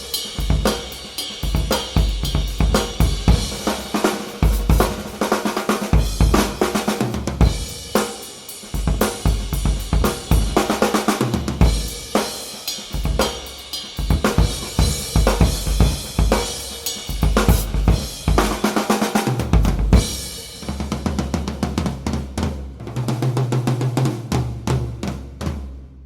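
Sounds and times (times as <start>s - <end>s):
snare drum strokes: 0.0s - 9.4s, 10.0s - 22.0s
cymbals and hi-hats: 0.0s - 25.6s.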